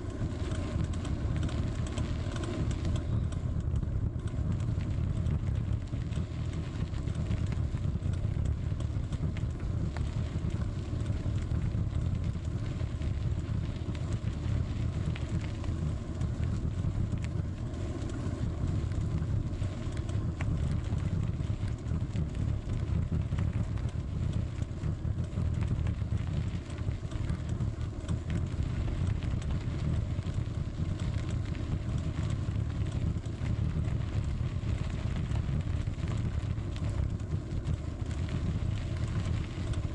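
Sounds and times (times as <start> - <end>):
bicycle ticks and rattles: 0.0 - 39.9
wind and tyre rumble: 0.0 - 39.9.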